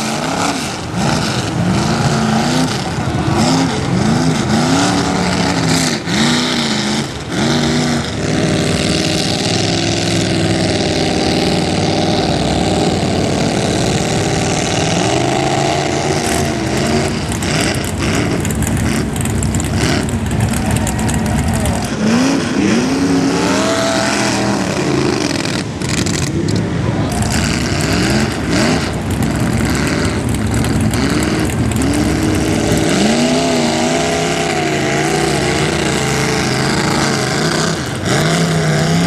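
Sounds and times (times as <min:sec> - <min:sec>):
truck engine revving: 0:00.0 - 0:39.0.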